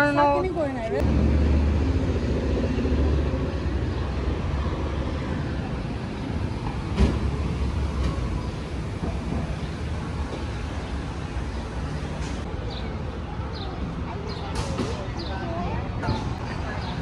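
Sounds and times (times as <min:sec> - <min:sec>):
city background rumble: 0:00.0 - 0:17.0.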